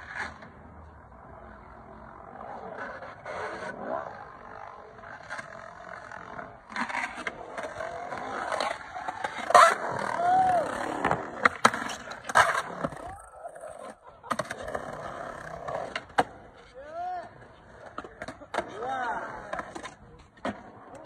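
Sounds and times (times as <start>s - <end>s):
skateboard wheels rolling on concrete: 0.0s - 21.0s
skateboard clacking on ground: 2.4s - 21.0s.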